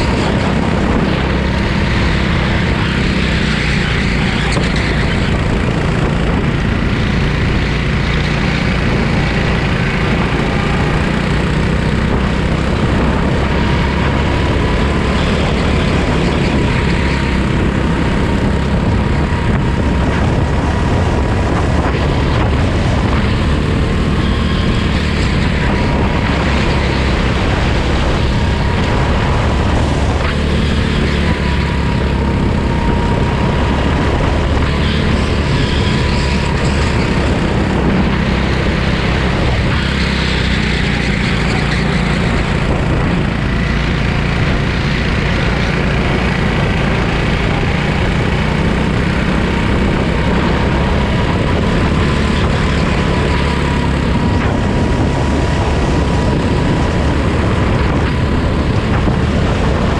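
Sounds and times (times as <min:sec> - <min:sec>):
go-kart engine droning: 0:00.0 - 0:59.9
wind noise: 0:00.0 - 0:59.9.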